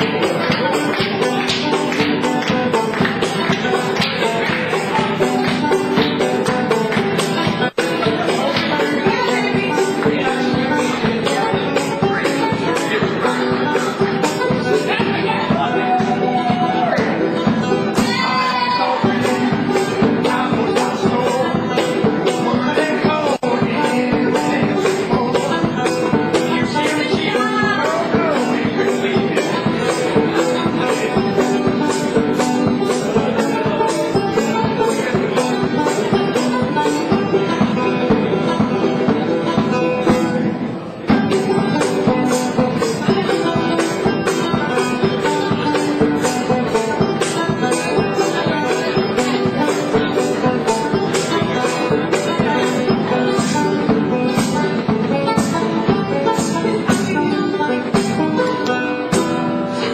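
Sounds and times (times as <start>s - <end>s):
upbeat band music with singing: 0.0s - 59.9s.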